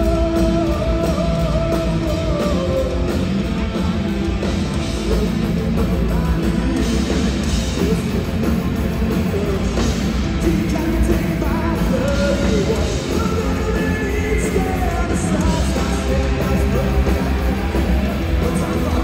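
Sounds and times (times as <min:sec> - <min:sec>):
person singing: 0:00.0 - 0:03.3, 0:04.8 - 0:19.0
guitar: 0:00.0 - 0:19.0
punk rock band playing live: 0:00.0 - 0:19.0.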